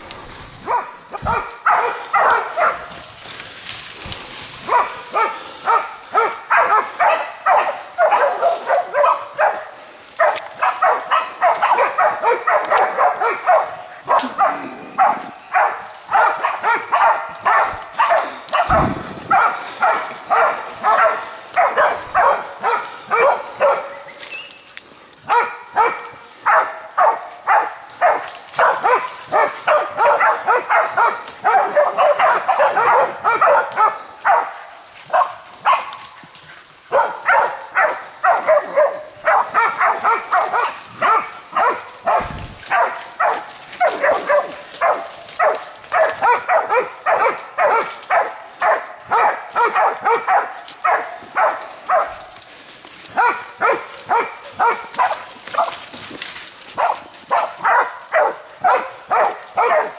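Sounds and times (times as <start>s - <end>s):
dogs barking: 0.6s - 3.2s, 4.4s - 24.3s, 25.2s - 56.1s, 56.7s - 59.9s.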